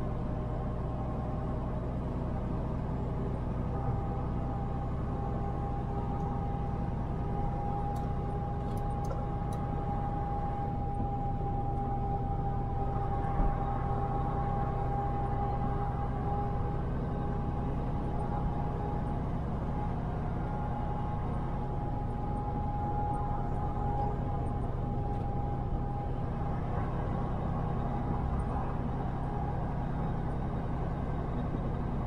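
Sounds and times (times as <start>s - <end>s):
truck engine and road drone: 0.0s - 32.0s
steady whine: 3.7s - 32.0s.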